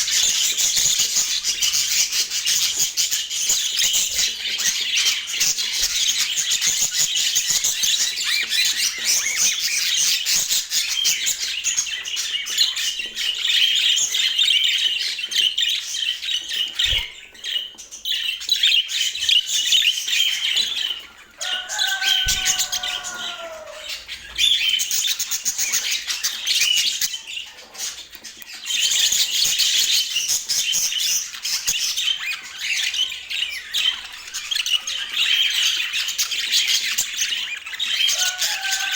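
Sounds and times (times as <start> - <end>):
budgerigars chirping and warbling: 0.0 - 38.9.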